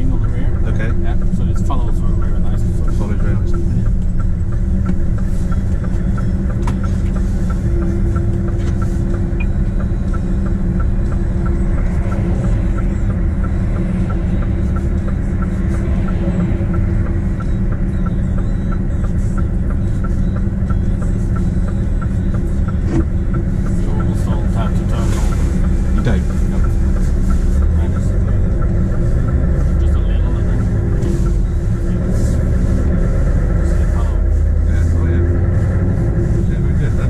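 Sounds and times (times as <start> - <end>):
truck diesel engine idling: 0.0 - 37.0
turn indicator ticking: 0.0 - 37.0.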